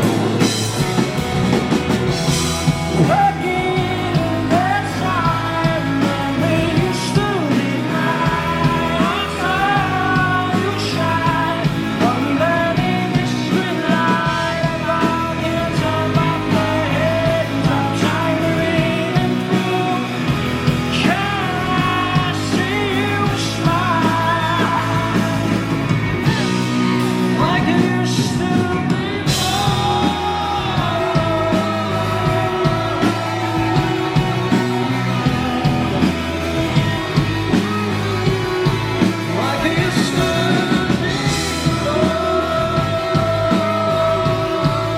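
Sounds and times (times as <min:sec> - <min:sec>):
lead singer singing: 0:00.0 - 0:44.9
live rock band playing: 0:00.0 - 0:44.9.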